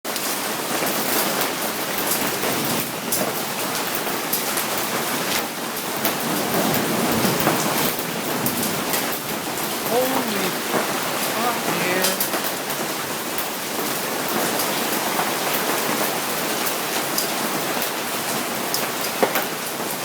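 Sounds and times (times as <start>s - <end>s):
heavy rain: 0.1s - 20.0s.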